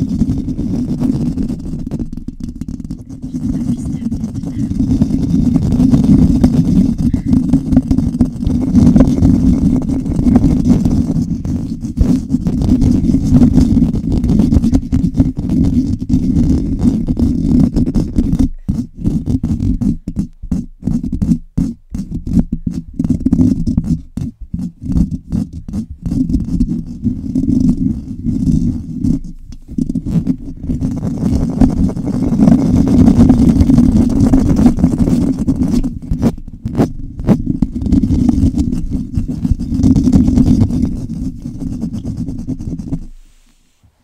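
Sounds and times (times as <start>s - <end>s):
scratching on a microphone: 0.0s - 44.0s.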